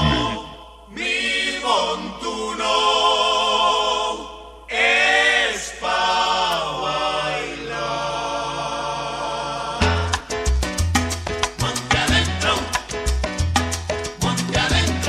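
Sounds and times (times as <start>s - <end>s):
choir singing a cappella: 0.0s - 10.3s, 11.6s - 13.0s, 14.2s - 15.0s.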